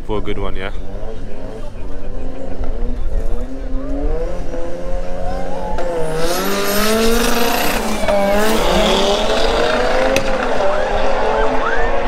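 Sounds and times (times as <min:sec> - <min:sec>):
drag cars accelerating hard: 0:00.7 - 0:12.0.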